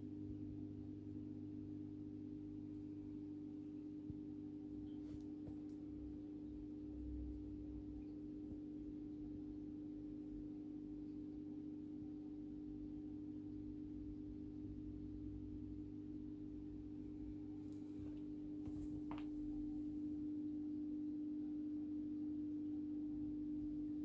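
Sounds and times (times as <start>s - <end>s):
aquarium pump humming: 0.0s - 24.0s.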